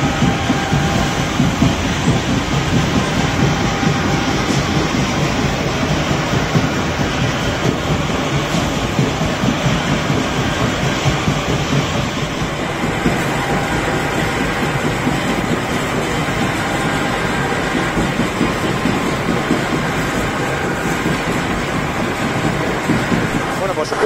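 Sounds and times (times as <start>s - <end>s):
machinery running steadily: 0.0s - 24.0s.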